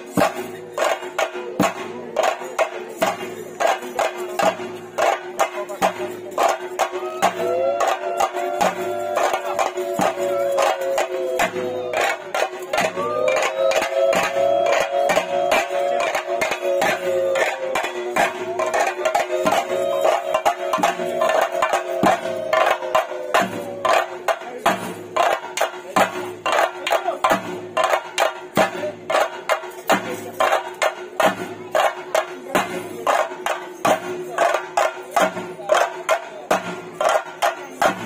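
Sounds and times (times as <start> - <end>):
drums beaten rapidly: 0.0 - 38.0.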